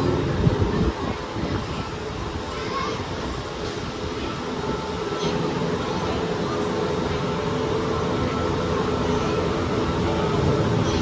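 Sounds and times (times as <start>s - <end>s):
gondola lift humming: 0.0s - 11.0s.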